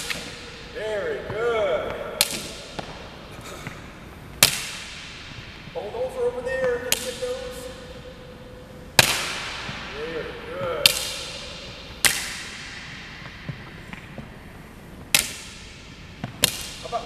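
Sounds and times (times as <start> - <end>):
plastic stick smacking with echo: 0.0 - 5.9, 6.6 - 8.1, 8.9 - 14.4, 15.0 - 17.0.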